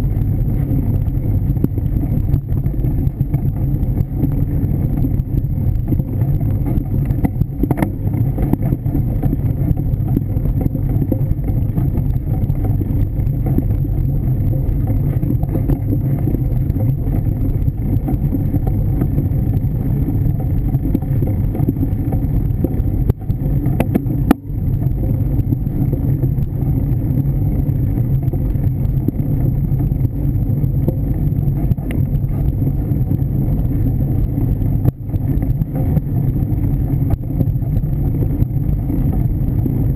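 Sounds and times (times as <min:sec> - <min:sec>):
bike tyres rumbling on dirt: 0:00.0 - 0:39.9.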